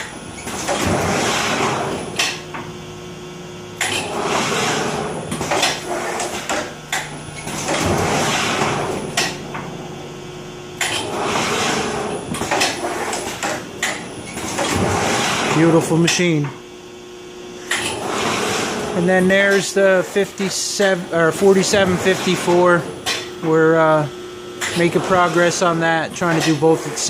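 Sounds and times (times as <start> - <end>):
printing press rushing mechanical noise: 0.0 - 27.0
steady machine hum: 0.0 - 27.0.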